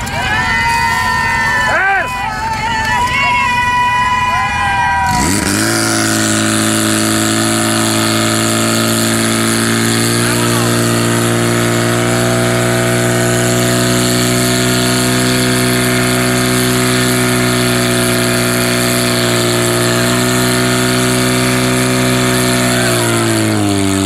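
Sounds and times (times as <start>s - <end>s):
petrol engine at high revs: 3.1s - 24.0s.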